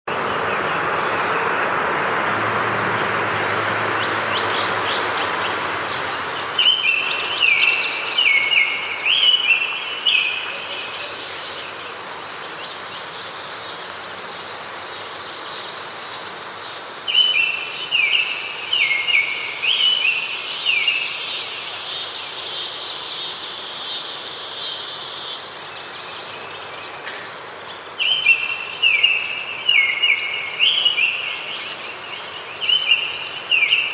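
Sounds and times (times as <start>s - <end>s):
high-pitched insect chorus: 0.1s - 33.9s
bird chirping: 2.9s - 13.8s, 15.6s - 33.9s.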